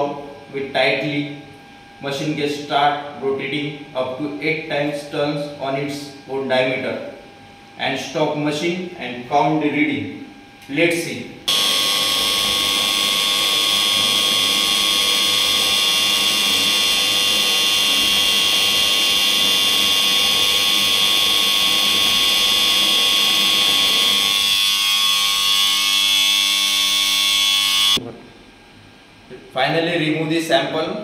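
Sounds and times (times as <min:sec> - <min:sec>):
machine motor high-pitched whine: 0:00.0 - 0:28.0.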